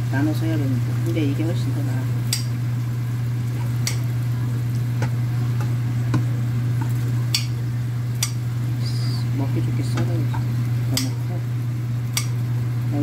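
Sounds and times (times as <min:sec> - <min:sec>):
light sizzling: 0:00.0 - 0:13.0
steady low hum: 0:00.0 - 0:13.0.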